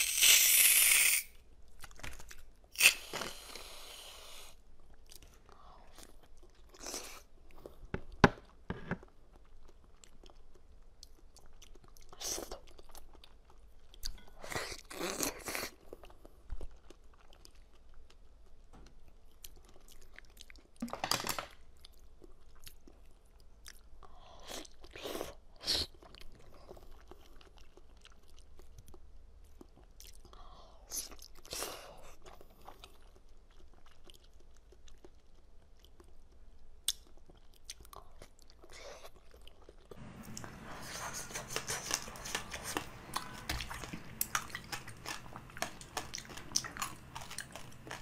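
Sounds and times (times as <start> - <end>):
person chewing and crunching: 0.0 - 3.7, 8.4 - 20.9, 21.8 - 30.4, 31.0 - 48.0.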